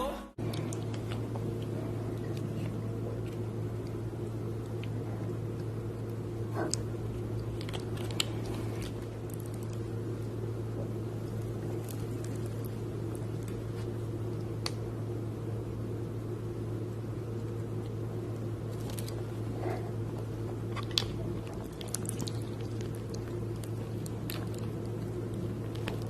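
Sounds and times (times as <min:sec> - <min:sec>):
low steady hum: 0:00.0 - 0:26.0
crunchy chewing of fried chicken: 0:00.4 - 0:14.7, 0:17.8 - 0:26.0
wet squishing chewing: 0:00.4 - 0:14.7, 0:18.7 - 0:26.0.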